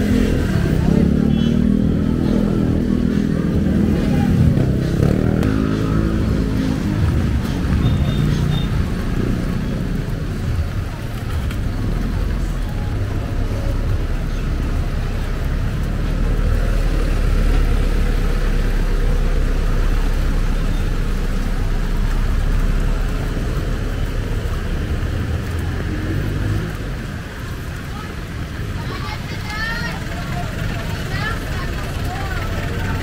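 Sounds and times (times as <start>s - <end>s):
traffic engines rumbling: 0.0s - 33.0s.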